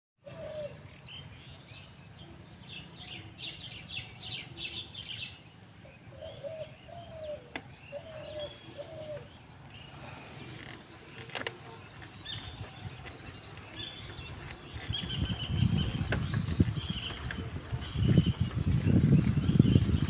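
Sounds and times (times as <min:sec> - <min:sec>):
small birds chirping: 0:00.2 - 0:20.0.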